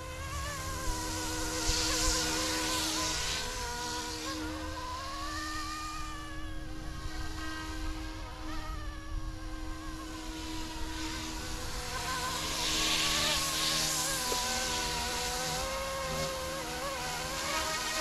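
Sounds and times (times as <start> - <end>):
rc helicopter rotor buzzing whine: 0.0 - 18.0.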